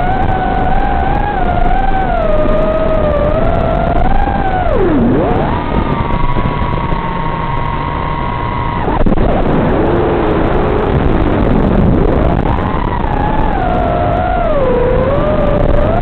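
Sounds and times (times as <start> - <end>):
quadcopter motors whining: 0.0 - 10.0, 12.2 - 16.0.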